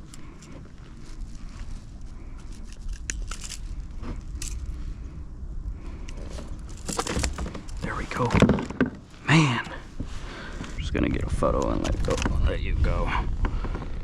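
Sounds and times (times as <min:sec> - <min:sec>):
wind rumbling on microphone: 0:00.0 - 0:09.2, 0:09.8 - 0:14.0.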